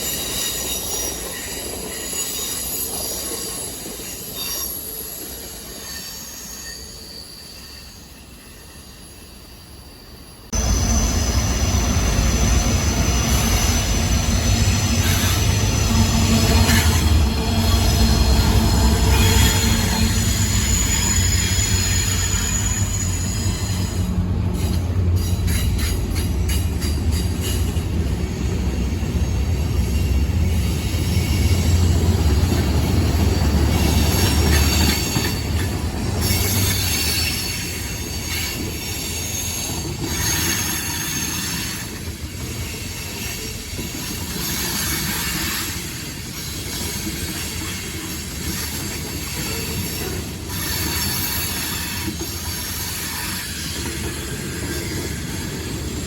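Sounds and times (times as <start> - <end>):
train wheels squealing on rails: 0.0 - 56.0
heavy low train rumble: 9.8 - 56.0.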